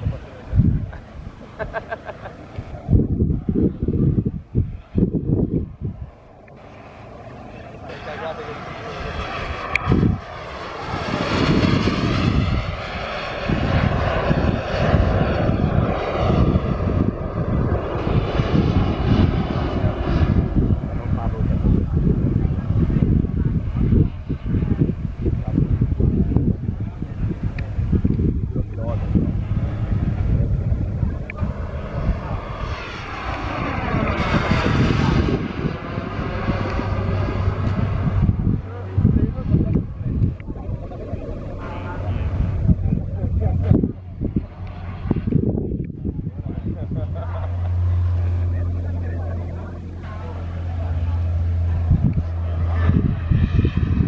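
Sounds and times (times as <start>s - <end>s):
model jet turbine engine: 0.0s - 54.0s
wind rumble on microphone: 0.0s - 54.0s.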